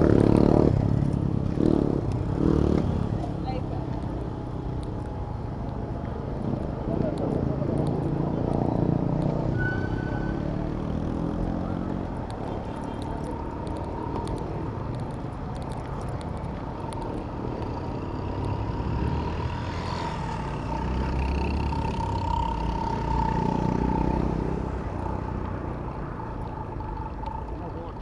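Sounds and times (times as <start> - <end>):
vehicle engine passing: 0.0 - 5.3, 5.9 - 27.9
road traffic: 0.0 - 28.0.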